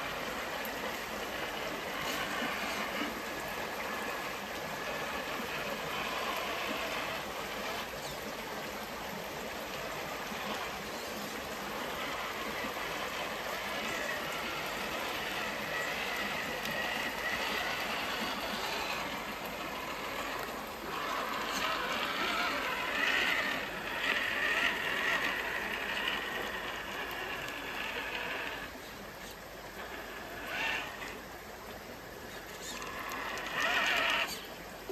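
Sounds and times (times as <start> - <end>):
electric motor and gears whining: 0.0 - 31.8, 32.4 - 34.9
water splashing and flowing: 0.0 - 34.9.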